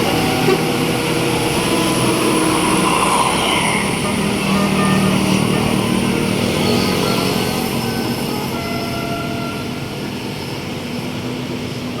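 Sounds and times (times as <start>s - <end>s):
bus driving past: 0.0s - 12.0s.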